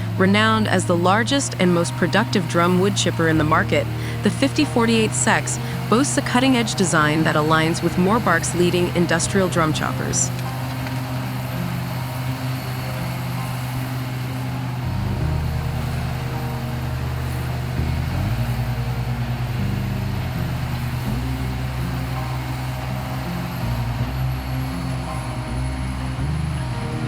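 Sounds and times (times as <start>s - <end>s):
wood chipper diesel engine drone: 0.0s - 27.0s.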